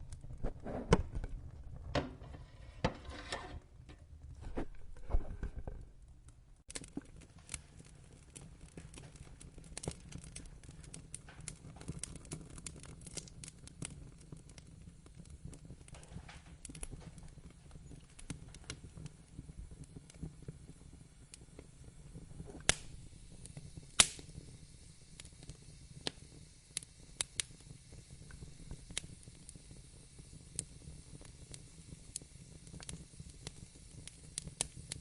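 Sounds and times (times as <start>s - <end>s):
low rumble of burning: 0.0s - 35.0s
wood fire crackling and popping: 0.0s - 35.0s.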